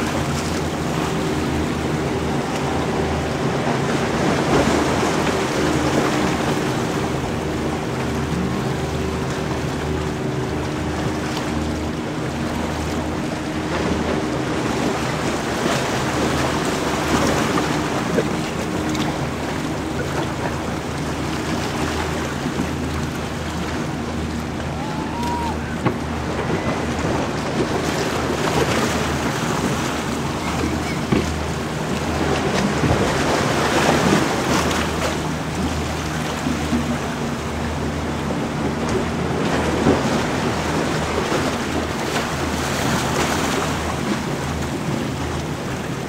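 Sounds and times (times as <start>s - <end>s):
motorboat engine droning: 0.0s - 46.0s
water wash: 0.0s - 46.0s.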